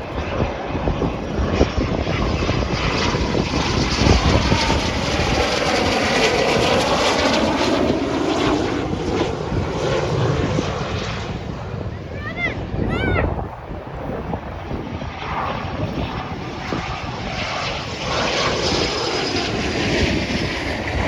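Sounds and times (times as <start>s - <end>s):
aircraft flying past: 0.0s - 21.0s
wind on microphone: 0.0s - 21.0s.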